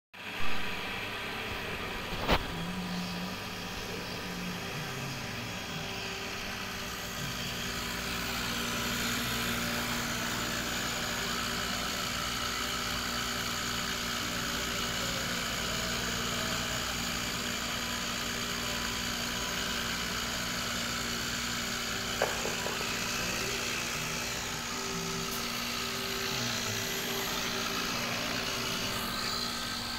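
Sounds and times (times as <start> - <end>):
axis motors humming: 0.3 - 29.9
milling machine spindle cutting: 0.8 - 29.9.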